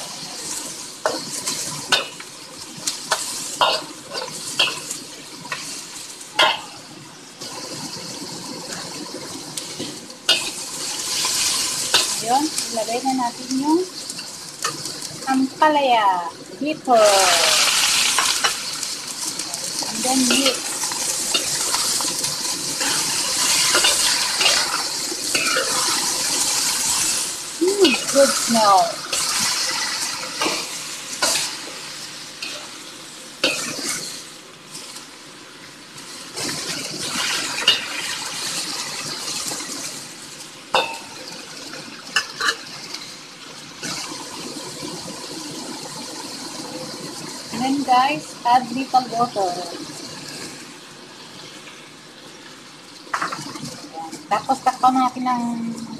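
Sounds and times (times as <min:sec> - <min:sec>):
vegetables sizzling in wok: 0:00.0 - 0:55.9.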